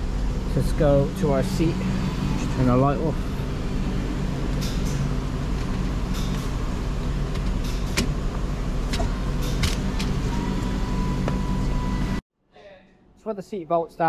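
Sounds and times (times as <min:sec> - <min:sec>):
low mechanical hum: 0:00.0 - 0:12.2.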